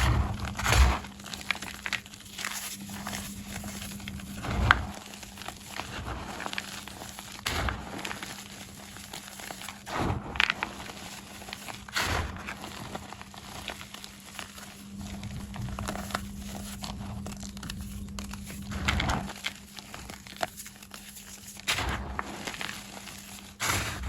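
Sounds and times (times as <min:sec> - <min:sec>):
chalk blocks crumbling: 0:00.0 - 0:24.0
loud crunches of chalk breaking: 0:00.0 - 0:24.0.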